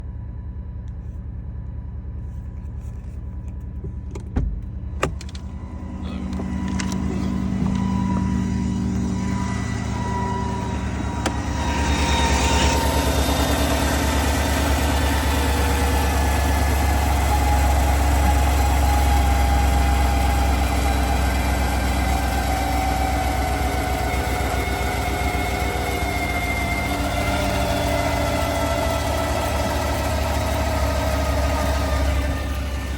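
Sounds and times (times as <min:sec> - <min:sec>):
pickup truck engine running: 0:00.0 - 0:32.9
thin whine rising in pitch: 0:05.3 - 0:32.9.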